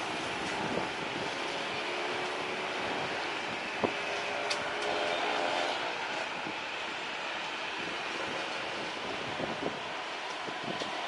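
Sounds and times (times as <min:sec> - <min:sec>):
engine roar: 0:00.0 - 0:11.0.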